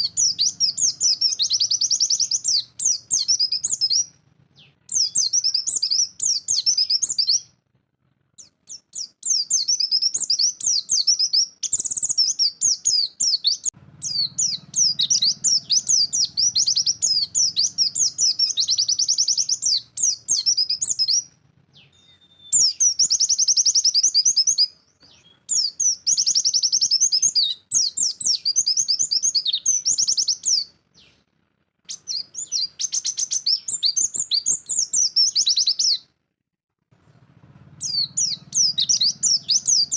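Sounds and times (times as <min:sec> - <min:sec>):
bird rapid high twittering song: 0:00.0 - 0:07.6, 0:08.4 - 0:31.2, 0:31.9 - 0:36.1, 0:37.8 - 0:39.9.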